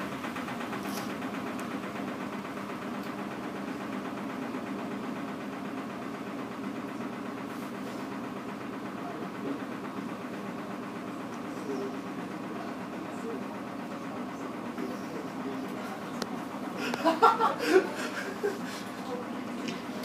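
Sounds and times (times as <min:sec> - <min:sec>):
washing machine churning: 0:00.0 - 0:20.0.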